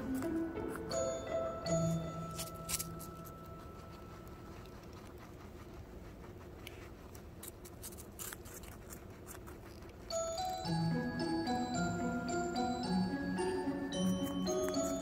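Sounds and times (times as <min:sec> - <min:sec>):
guinea pig crunching apple: 0:00.0 - 0:15.0.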